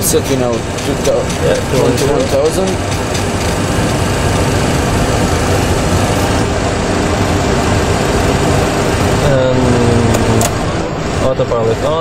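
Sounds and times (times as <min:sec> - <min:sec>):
simulated jet engine and airflow rush: 0:00.0 - 0:12.0.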